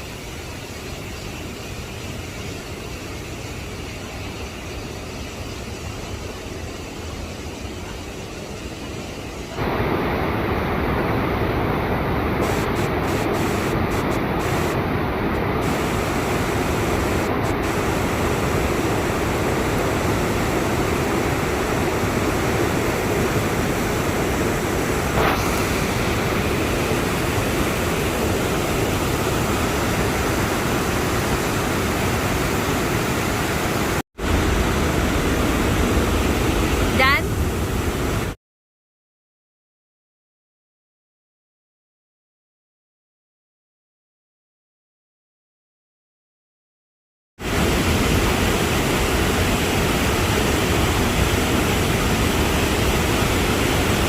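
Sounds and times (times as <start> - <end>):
waterfall rushing water: 0.0 - 38.4, 47.4 - 54.0.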